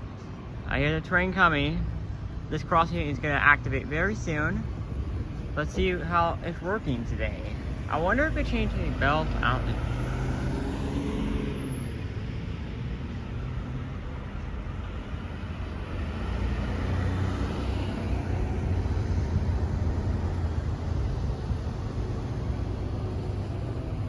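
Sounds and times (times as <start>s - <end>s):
low engine hum: 0.0s - 24.0s
road traffic passing: 0.0s - 24.0s.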